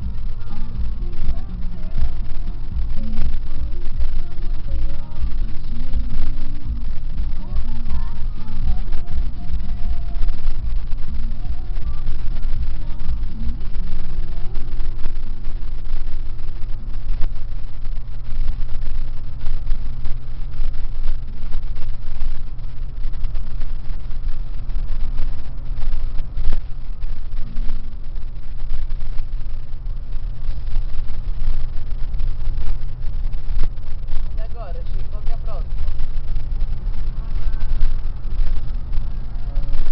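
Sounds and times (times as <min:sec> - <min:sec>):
buffeting: 0:00.0 - 0:39.9
vehicle engine rumble: 0:00.0 - 0:39.9.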